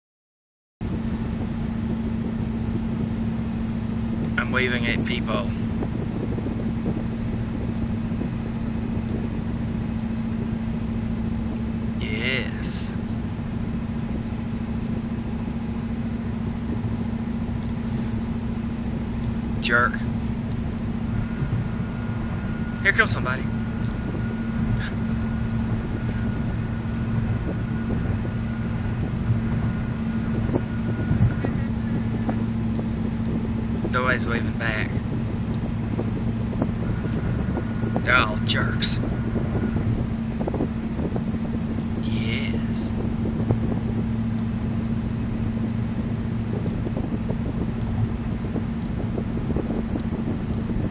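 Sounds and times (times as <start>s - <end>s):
car engine and tyre rumble: 0.8s - 50.9s.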